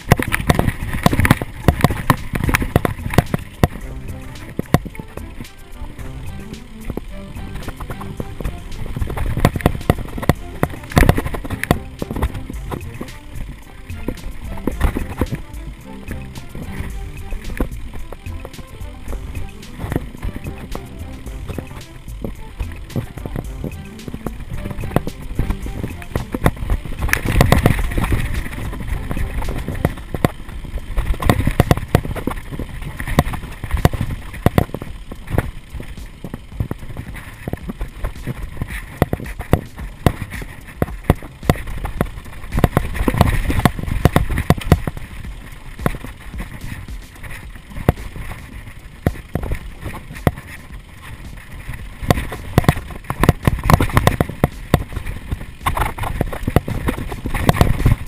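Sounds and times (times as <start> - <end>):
bike rattling over bumps: 0.0 - 58.0
bike tyres rumbling over dirt: 0.0 - 58.0.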